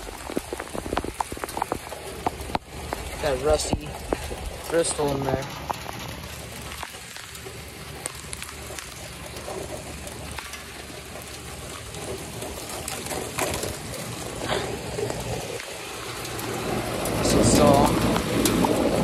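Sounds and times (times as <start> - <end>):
drops ticking on hard surfaces: 0.0 - 19.0
rain falling: 0.0 - 19.0.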